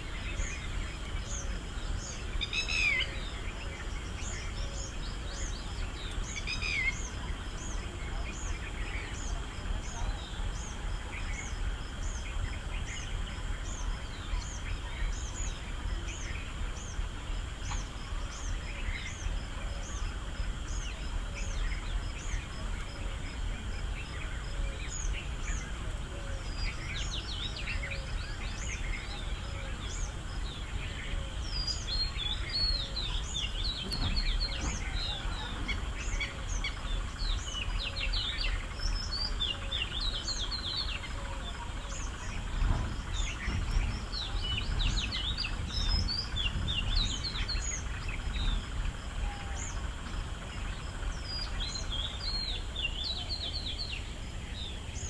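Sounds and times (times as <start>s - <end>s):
birds varied chirps: 0.0s - 55.0s
steady low rumble: 0.0s - 55.0s.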